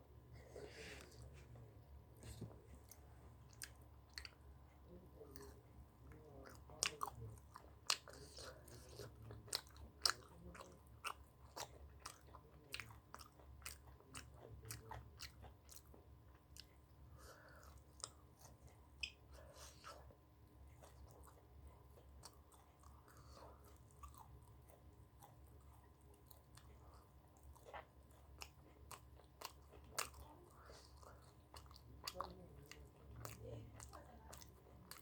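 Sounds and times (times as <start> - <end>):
person chewing food: 0.3 - 35.0.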